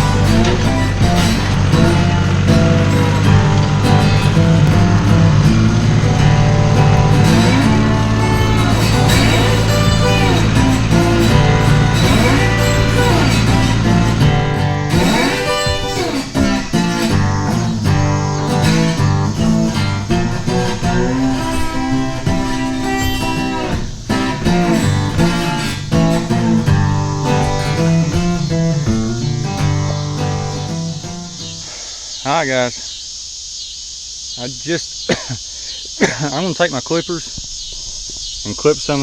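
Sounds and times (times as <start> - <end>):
bluesy guitar music: 0.0 - 31.8.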